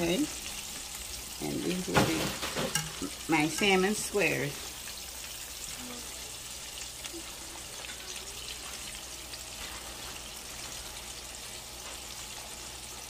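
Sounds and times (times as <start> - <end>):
fish deep-frying in oil: 0.0 - 13.0.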